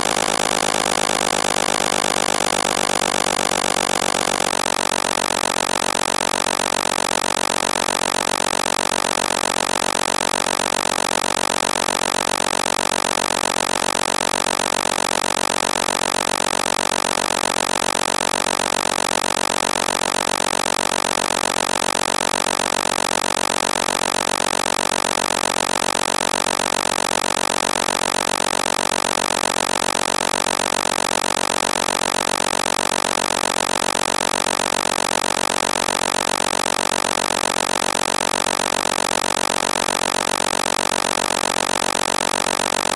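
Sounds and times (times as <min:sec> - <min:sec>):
synthesized engine idling: 0:00.0 - 0:42.9.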